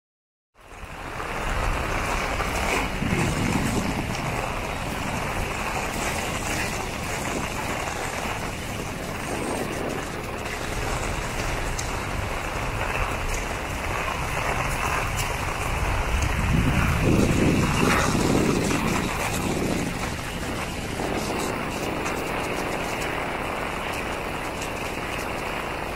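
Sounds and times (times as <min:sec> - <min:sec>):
heavy rain falling: 0:00.6 - 0:25.9
wind buffeting microphone: 0:00.7 - 0:25.9.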